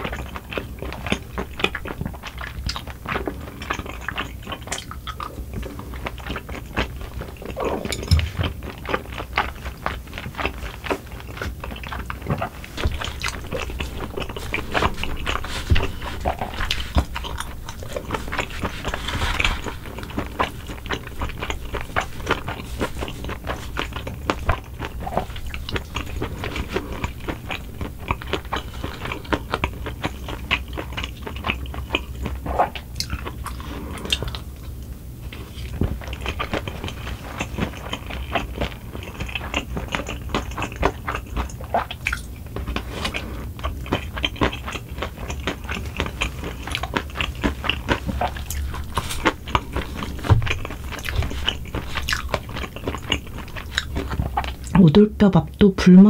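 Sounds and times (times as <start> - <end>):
chewing with wet crunches: 0.0 - 55.1.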